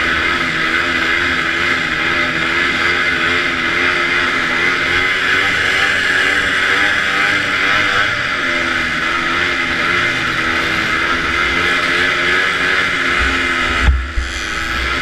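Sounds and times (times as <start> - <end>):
rush of wind and track noise: 0.0 - 15.0
snowmobile engine racing: 0.0 - 15.0.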